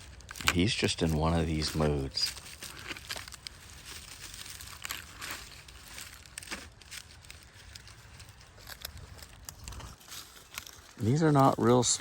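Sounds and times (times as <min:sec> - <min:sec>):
dry leaves and twigs rustling: 0:00.0 - 0:12.0.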